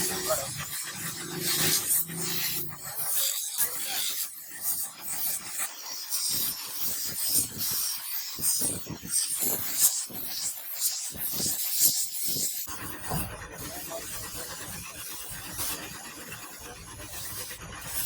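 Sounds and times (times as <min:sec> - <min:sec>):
hand file rasping: 0:00.0 - 0:18.0.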